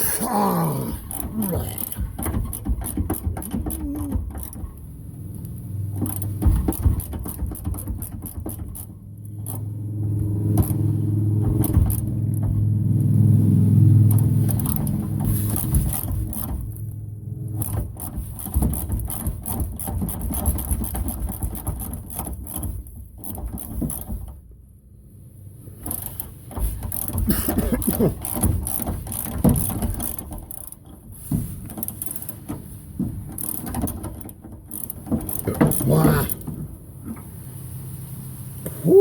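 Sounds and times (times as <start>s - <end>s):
metal parts knocking and rubbing: 0.9s - 12.7s, 14.0s - 24.6s, 25.6s - 37.4s.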